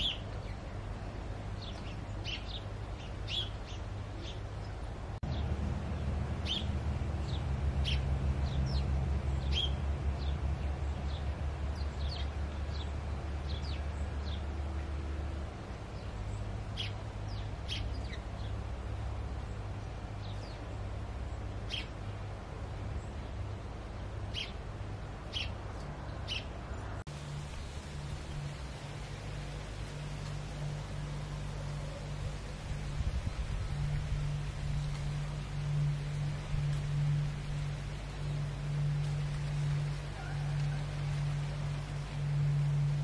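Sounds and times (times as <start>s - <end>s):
birds chirping: 0.0s - 14.9s, 15.7s - 43.0s
steady low hum: 0.0s - 43.0s.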